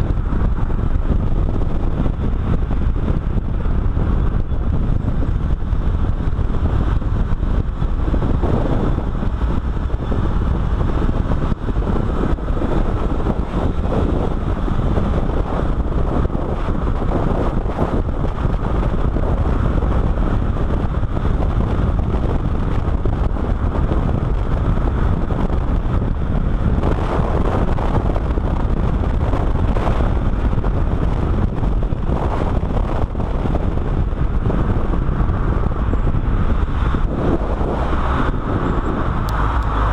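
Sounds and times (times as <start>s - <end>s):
car engine: 0.0s - 39.9s
wind buffeting microphone: 0.0s - 39.9s.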